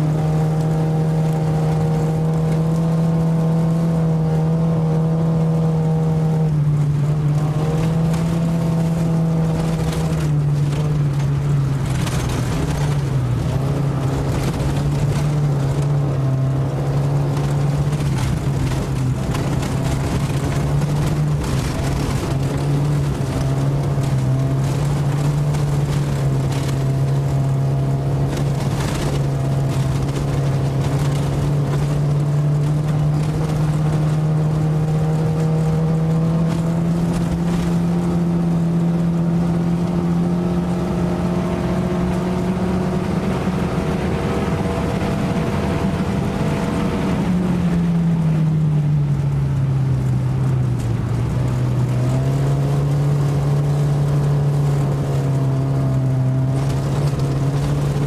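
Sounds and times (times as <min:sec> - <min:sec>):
car engine droning under load: 0:00.0 - 0:58.0.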